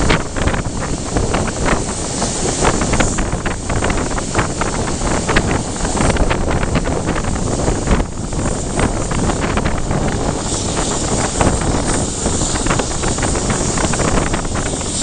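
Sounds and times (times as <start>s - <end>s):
moving train rumble: 0.0s - 15.0s
wind buffeting microphone: 0.0s - 15.0s.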